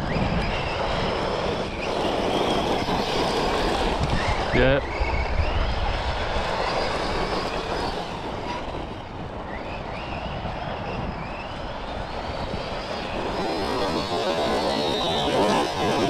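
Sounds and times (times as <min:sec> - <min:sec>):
electric motor whine: 0:00.0 - 0:16.0
toy car tyres rattling over ground: 0:00.0 - 0:16.0.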